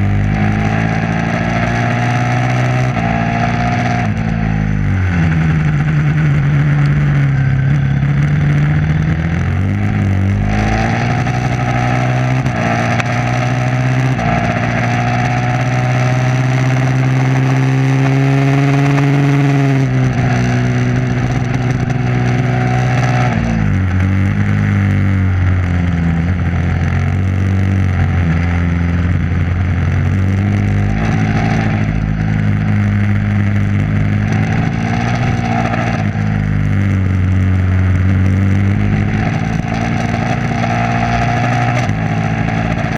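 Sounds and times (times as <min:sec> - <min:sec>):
motorcycle engine running hard: 0:00.0 - 0:42.9
steady rushing noise: 0:00.0 - 0:42.9.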